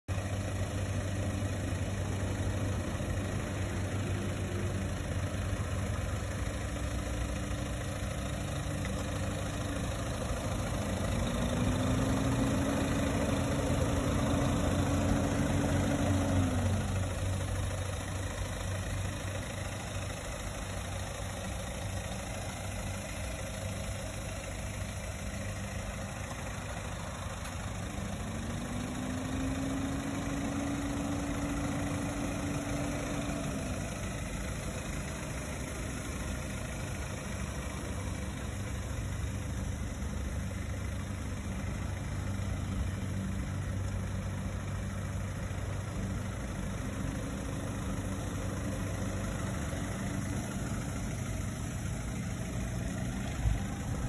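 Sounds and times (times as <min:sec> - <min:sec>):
diesel engine idling: 0:00.1 - 0:54.0.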